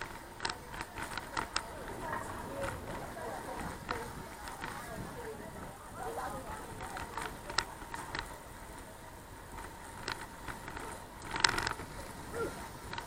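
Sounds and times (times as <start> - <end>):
bicycle clicks and rattles: 0.0 - 13.0.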